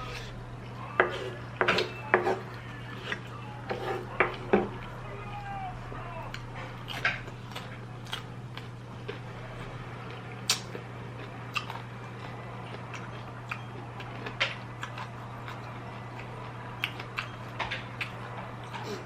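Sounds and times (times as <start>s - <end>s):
person chewing food: 0.0s - 5.0s, 6.2s - 19.0s
low hum: 0.0s - 19.0s.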